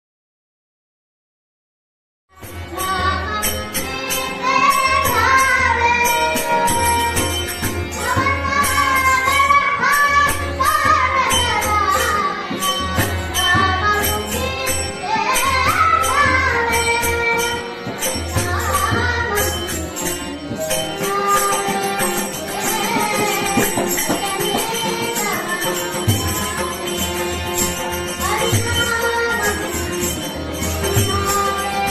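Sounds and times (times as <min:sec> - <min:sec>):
child singing: 0:02.4 - 0:31.9.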